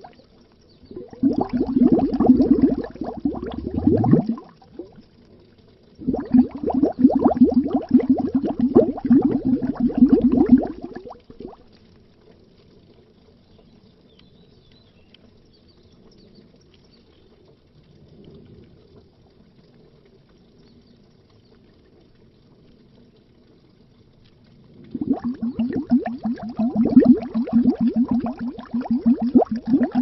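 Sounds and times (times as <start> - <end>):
underwater bubbles: 0.0 - 15.4, 16.1 - 30.0
faint low water murmur: 0.0 - 30.0.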